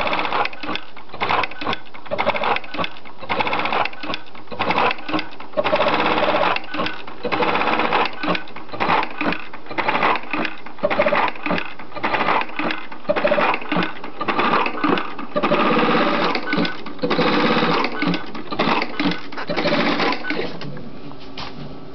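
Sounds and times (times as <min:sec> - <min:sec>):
sewing machine stitching: 0:00.0 - 0:20.7.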